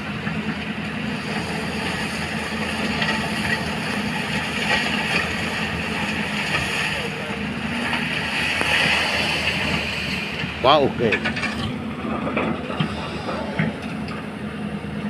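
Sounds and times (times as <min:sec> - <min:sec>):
excavator diesel engine running: 0:00.0 - 0:15.0
hydraulics operating: 0:00.0 - 0:15.0.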